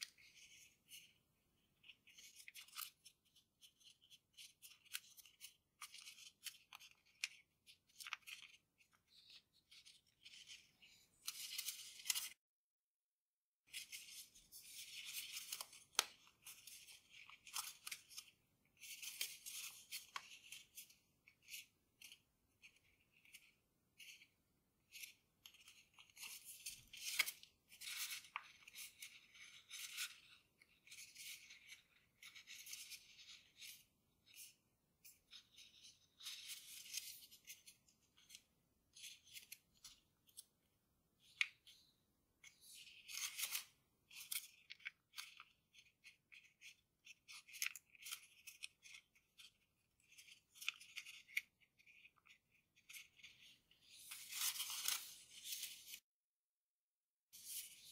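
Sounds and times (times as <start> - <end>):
paper rustling and crinkling: 1.8 - 12.4, 13.7 - 24.2, 24.9 - 40.5, 42.4 - 56.0.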